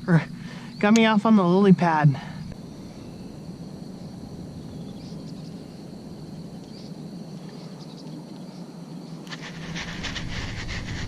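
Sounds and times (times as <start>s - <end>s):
insect drone: 0.0s - 11.0s
low steady rumble: 0.0s - 11.0s.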